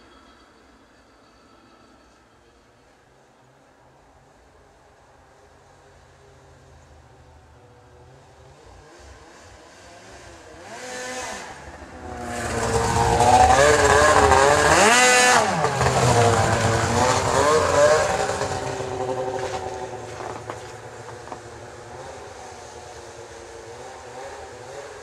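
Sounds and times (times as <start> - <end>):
snowmobile engine passing by: 4.0 - 25.0.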